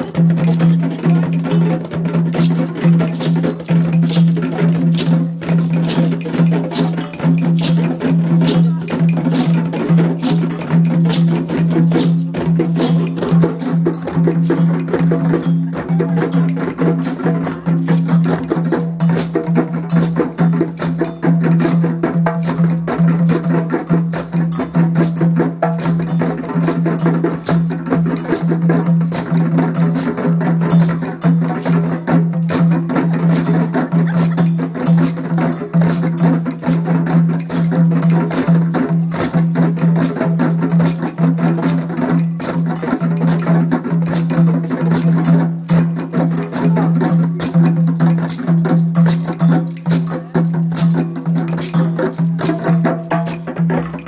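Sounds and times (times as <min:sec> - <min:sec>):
djembe drumming: 0:00.0 - 0:54.0.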